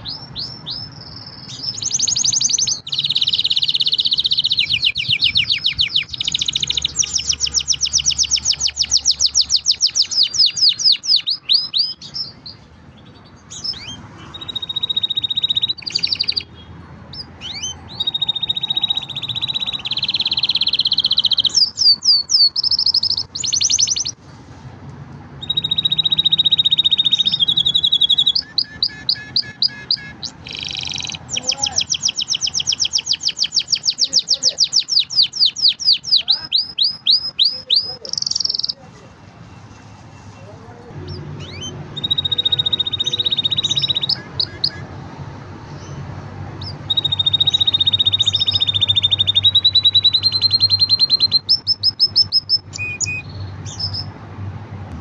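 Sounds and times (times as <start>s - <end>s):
canary singing trills: 0.0s - 24.2s, 25.3s - 54.4s.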